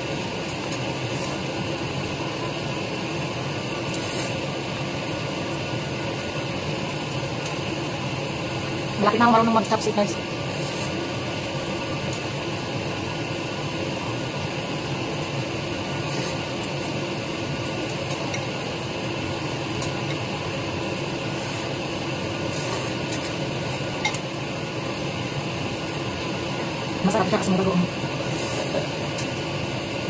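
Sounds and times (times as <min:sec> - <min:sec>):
background hiss and hum: 0:00.0 - 0:30.0.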